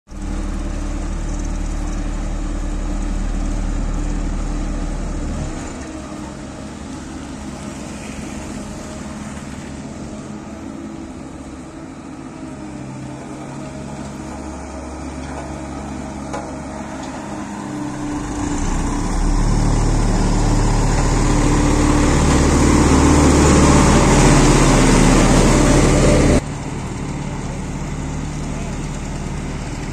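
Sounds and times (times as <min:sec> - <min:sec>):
road roller diesel engine humming: 0:00.1 - 0:29.9.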